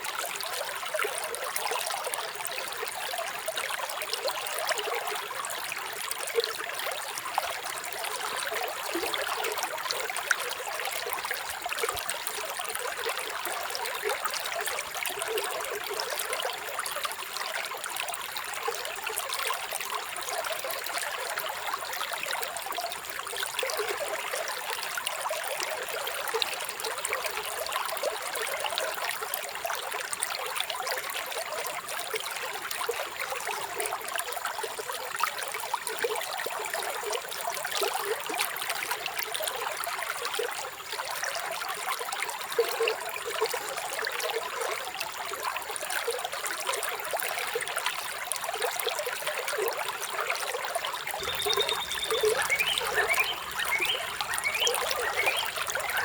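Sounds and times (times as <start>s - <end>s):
stream trickling and splashing: 0.0s - 56.0s.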